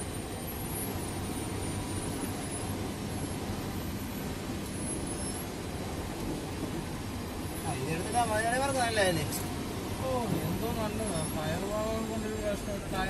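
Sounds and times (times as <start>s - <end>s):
truck diesel engine rumbling: 0.0s - 13.0s.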